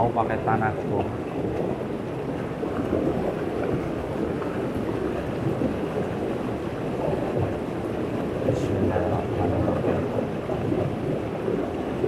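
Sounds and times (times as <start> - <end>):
flowing river rushing: 0.0 - 12.0
wind on microphone: 0.0 - 12.0.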